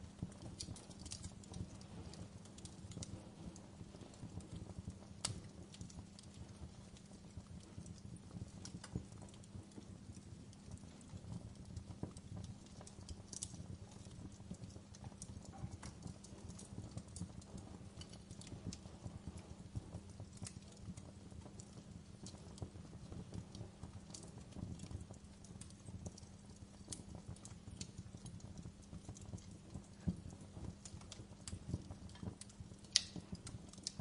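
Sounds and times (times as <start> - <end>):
low steady rumble: 0.0 - 34.0
wood fire crackling: 0.0 - 34.0.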